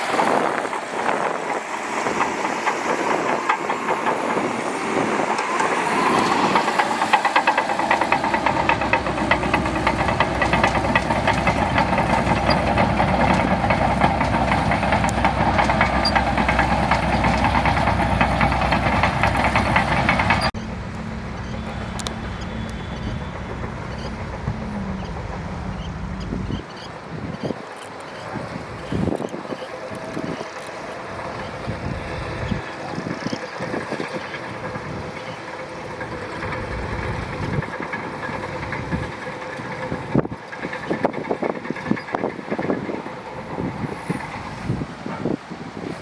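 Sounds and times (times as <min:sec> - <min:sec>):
rapid clatter: 0:00.0 - 0:44.7
bulldozer diesel engine: 0:00.0 - 0:46.0.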